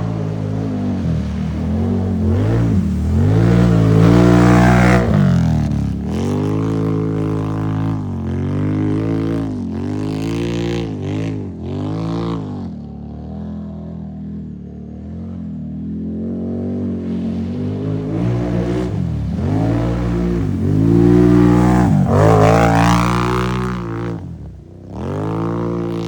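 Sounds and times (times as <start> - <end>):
atv engine revving and idling: 0.0 - 26.0.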